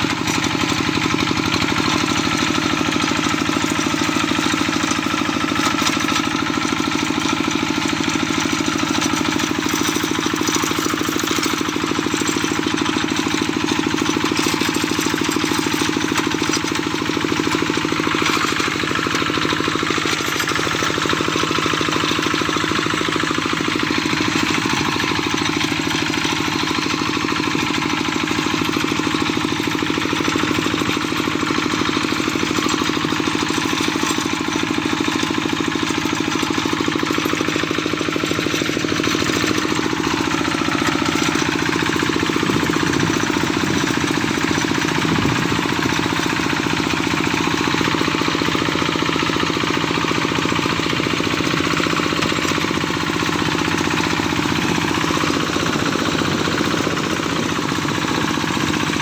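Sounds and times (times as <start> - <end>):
small engine pulsing: 0.0 - 59.0.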